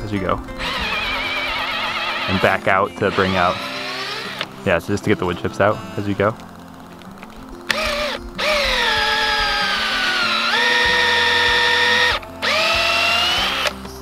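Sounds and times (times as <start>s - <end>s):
cordless drill motor whining: 0.0s - 14.0s.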